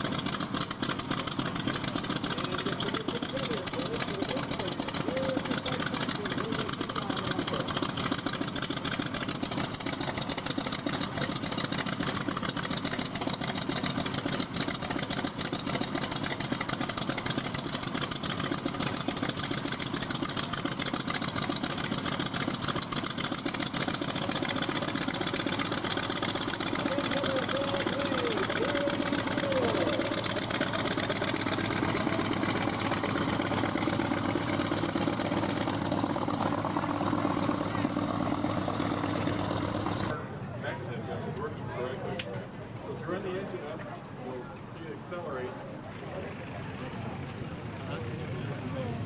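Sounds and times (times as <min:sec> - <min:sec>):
radial aircraft engine running: 0:00.0 - 0:49.0.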